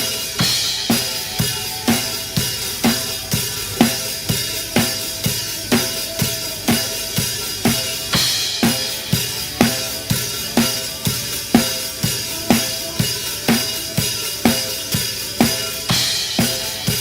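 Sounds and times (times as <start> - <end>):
backing instruments: 0.0 - 17.0
cymbal wash: 0.0 - 17.0
drum kit playing a groove: 0.0 - 17.0.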